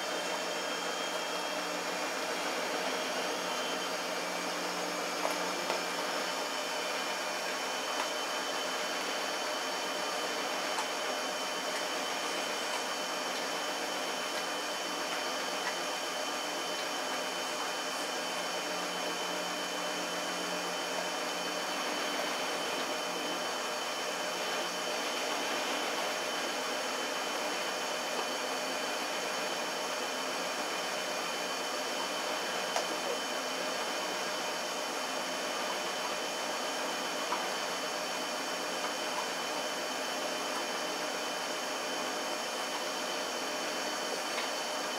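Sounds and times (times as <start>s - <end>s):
appliance whirring hiss: 0.0s - 44.9s.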